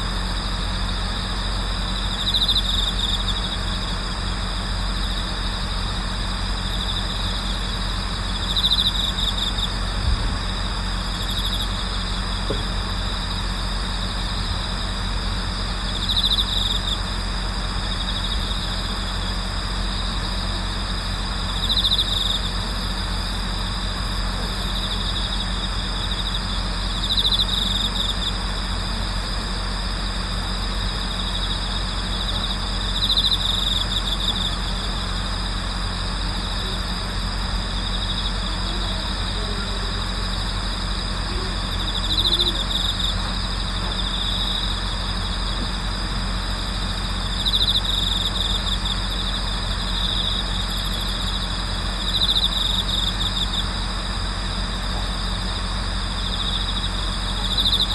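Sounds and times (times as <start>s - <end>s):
high cricket chorus: 0.0s - 57.9s
bell cricket ringing trill: 0.1s - 57.9s.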